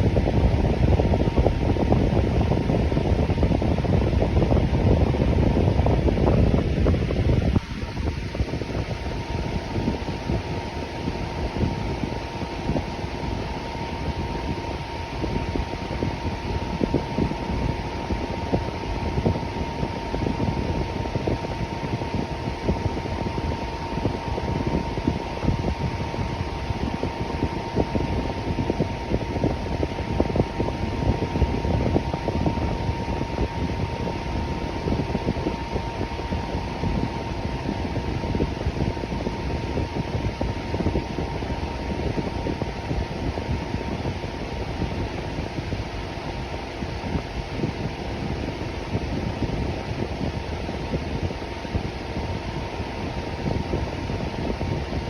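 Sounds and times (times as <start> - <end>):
electric fan running: 0.0 - 55.0.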